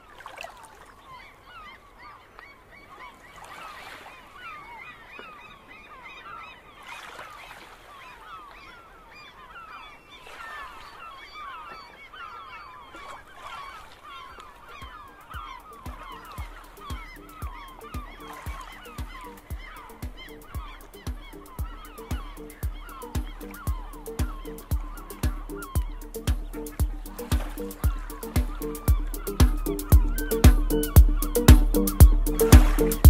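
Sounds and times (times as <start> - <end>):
flock of birds calling: 0.0 - 33.0.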